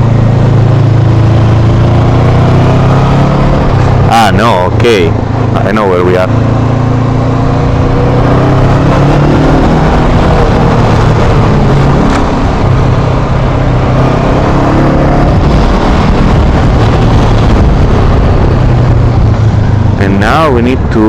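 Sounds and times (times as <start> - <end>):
motorcycle engine revving: 0.0 - 21.0
wind rush on microphone: 0.0 - 21.0.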